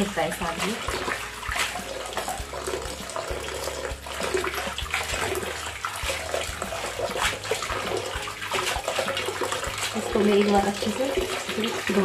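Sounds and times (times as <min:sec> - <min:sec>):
greens washed by hand splashing: 0:00.0 - 0:12.0
tap water running into basin: 0:00.0 - 0:12.0.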